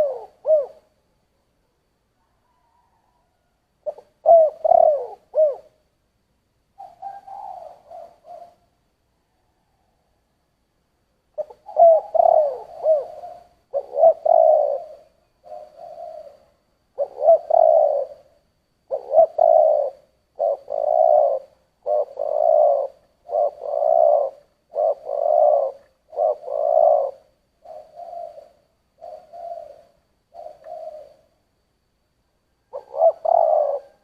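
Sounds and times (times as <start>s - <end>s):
dove cooing: 0.0s - 1.0s, 2.2s - 5.8s, 6.8s - 8.8s, 11.3s - 31.4s, 32.6s - 34.0s.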